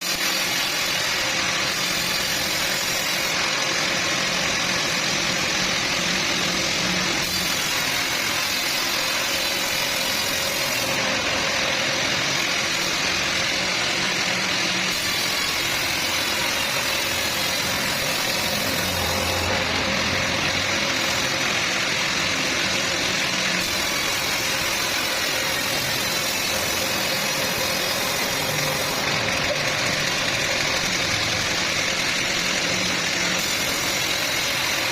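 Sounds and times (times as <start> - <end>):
sawmill saw cutting wood: 0.0 - 34.9.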